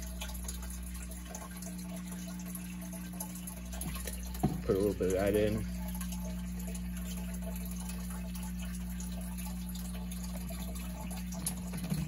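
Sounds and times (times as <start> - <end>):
filter humming: 0.0 - 12.0
water trickling: 0.0 - 12.0.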